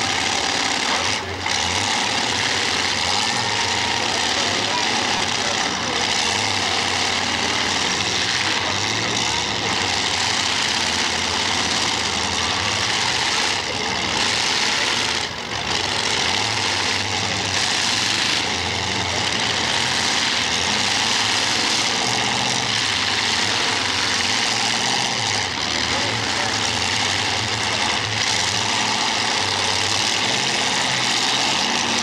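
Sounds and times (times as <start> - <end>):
race car engines roaring: 0.0 - 32.0.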